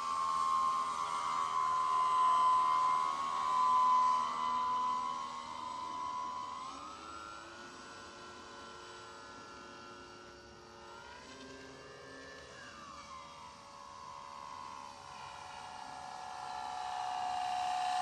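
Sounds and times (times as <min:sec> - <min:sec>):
model airplane motor whining: 0:00.0 - 0:18.0.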